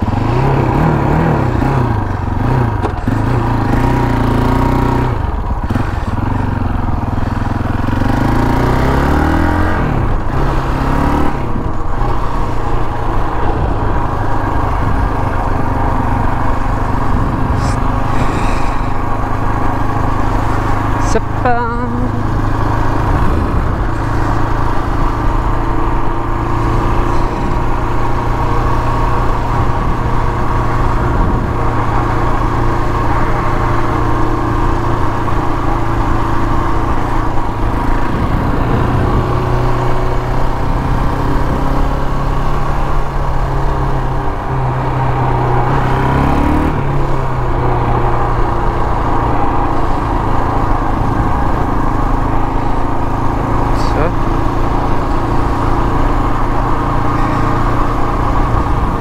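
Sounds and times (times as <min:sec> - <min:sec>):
quad engine running: 0:00.0 - 0:59.0.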